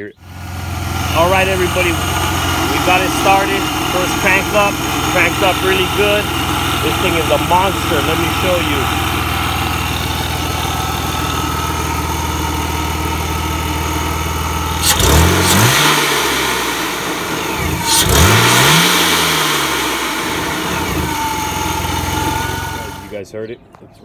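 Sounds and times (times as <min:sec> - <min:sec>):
car engine idling and revving: 0:00.0 - 0:23.2.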